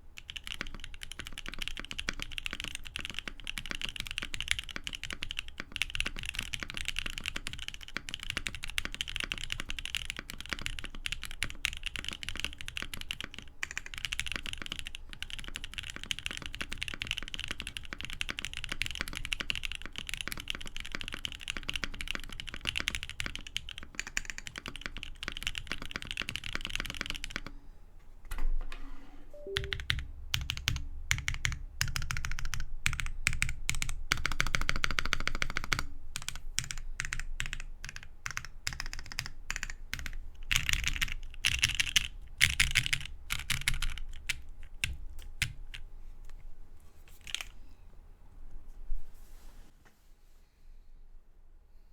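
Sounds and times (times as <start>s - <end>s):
mechanical keyboard typing: 0.2s - 27.5s, 29.4s - 45.9s, 47.2s - 47.5s.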